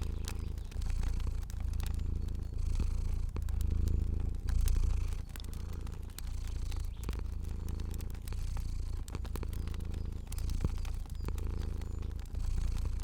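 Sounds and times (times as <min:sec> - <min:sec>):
cat purring: 0:00.0 - 0:13.0
wood fire crackling: 0:00.0 - 0:13.0.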